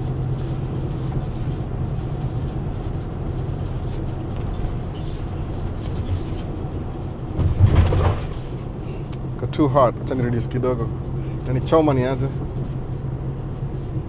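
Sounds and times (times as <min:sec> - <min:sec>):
vehicle cabin engine and road rumble: 0:00.0 - 0:14.0.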